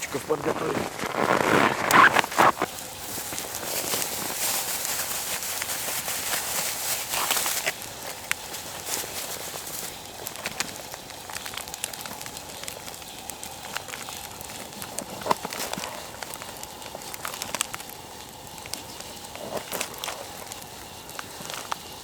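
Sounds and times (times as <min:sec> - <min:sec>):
twigs crackling and snapping: 0:00.0 - 0:22.0.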